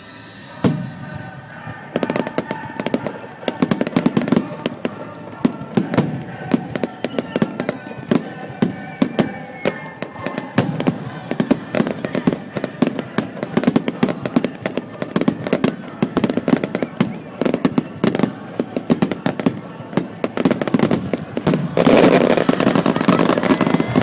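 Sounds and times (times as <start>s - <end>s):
firework bangs: 0.0s - 24.0s
firework crackling: 0.0s - 24.0s.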